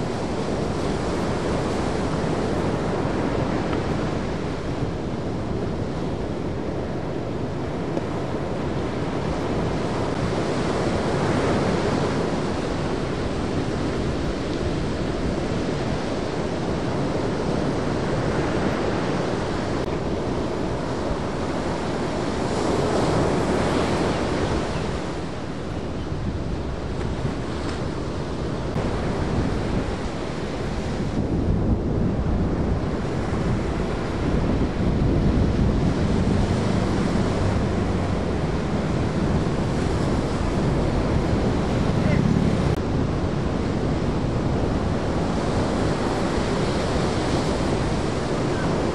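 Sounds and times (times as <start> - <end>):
ocean waves breaking: 0.0 - 48.9
wind on microphone: 0.0 - 48.9.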